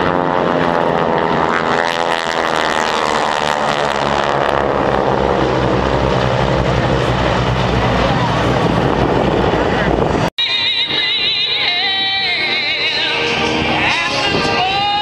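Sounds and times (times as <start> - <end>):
propeller planes droning: 0.0 - 15.0.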